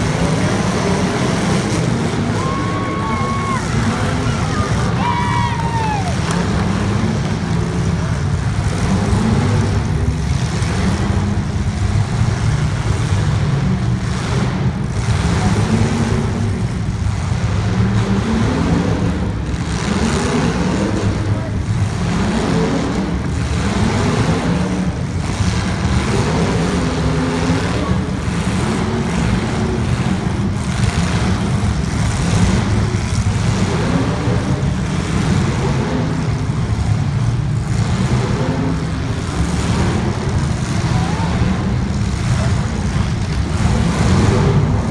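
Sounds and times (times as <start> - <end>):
racing car engines: 0.0 - 44.9.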